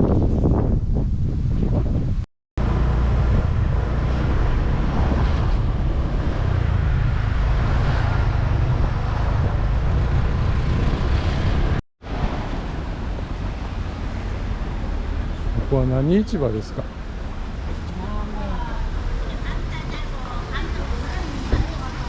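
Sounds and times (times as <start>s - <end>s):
wind buffeting microphone: 0.0s - 15.8s, 18.8s - 22.0s
road noise: 0.1s - 22.0s
vehicle engine: 2.6s - 22.0s.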